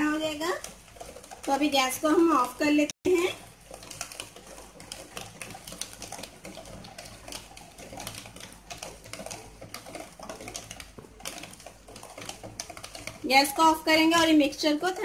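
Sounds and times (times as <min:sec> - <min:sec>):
wooden spatula scraping pan: 0:00.0 - 0:15.0.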